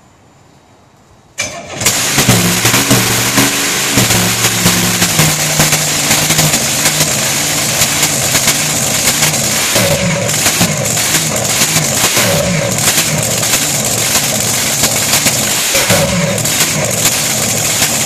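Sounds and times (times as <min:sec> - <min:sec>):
boat engine running loud: 0:01.8 - 0:18.0.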